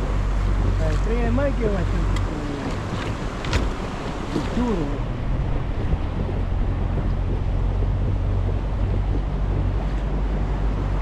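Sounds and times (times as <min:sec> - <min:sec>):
boat engine humming: 0:00.0 - 0:11.0
water around hull: 0:00.0 - 0:11.0
wind buffeting microphone: 0:00.0 - 0:11.0.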